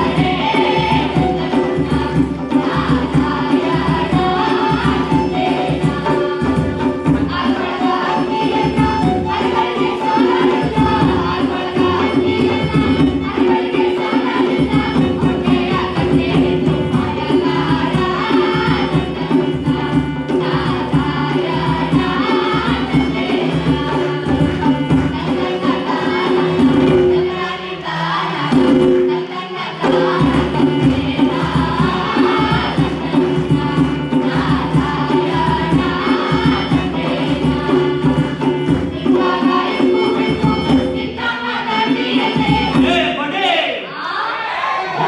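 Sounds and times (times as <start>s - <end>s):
hand drums: 0.0s - 43.2s
group of singers: 0.0s - 45.0s.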